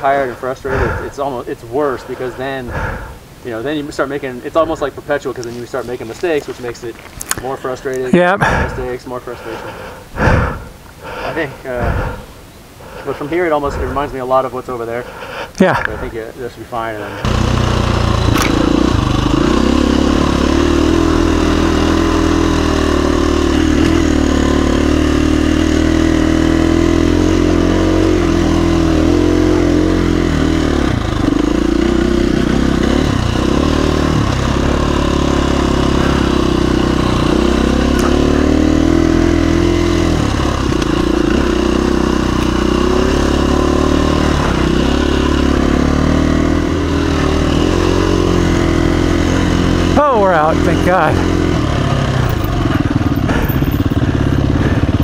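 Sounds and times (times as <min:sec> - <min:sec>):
dirt bike engine running: 0:00.0 - 0:12.2, 0:16.8 - 0:55.0.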